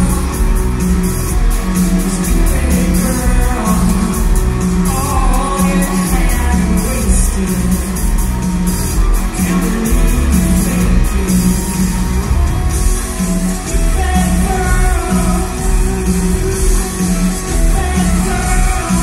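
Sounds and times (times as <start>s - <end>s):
bass guitar: 0.0s - 19.0s
driving drum beat: 0.0s - 19.0s
electric guitar: 0.0s - 19.0s.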